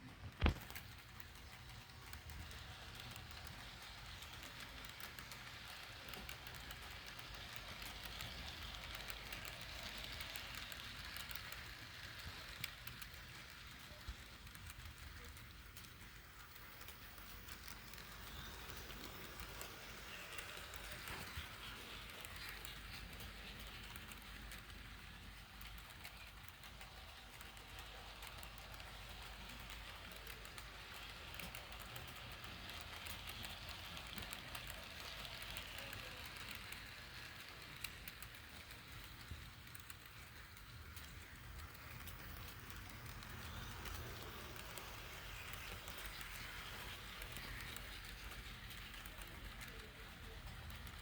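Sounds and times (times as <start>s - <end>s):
model train rolling on track: 0.0s - 51.0s.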